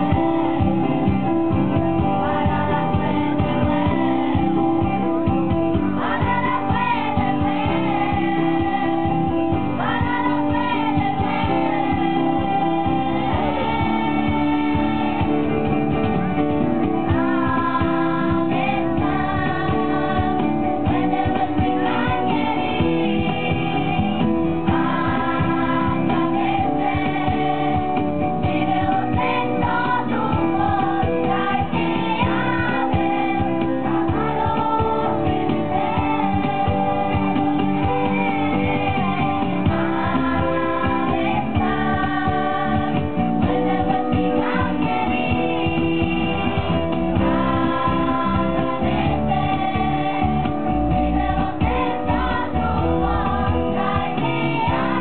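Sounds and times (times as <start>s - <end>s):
children's choir singing: 0.0s - 16.0s, 17.0s - 55.0s
acoustic guitar: 0.0s - 55.0s.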